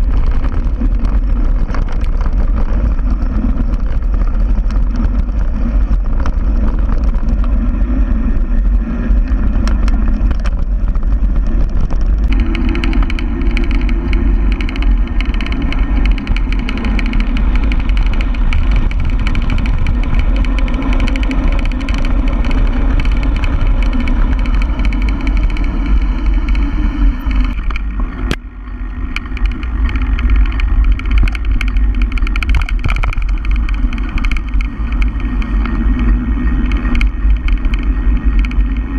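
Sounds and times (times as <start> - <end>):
bike knocks and rattles: 0.0 - 38.9
wind buffeting microphone: 0.0 - 38.9.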